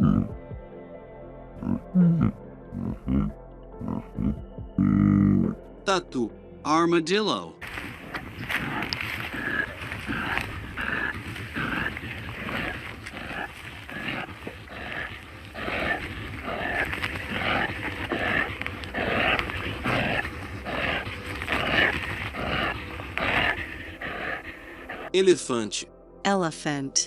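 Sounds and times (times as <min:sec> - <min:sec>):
armadillo grunting: 0:00.0 - 0:00.4, 0:01.6 - 0:05.6, 0:07.6 - 0:25.2.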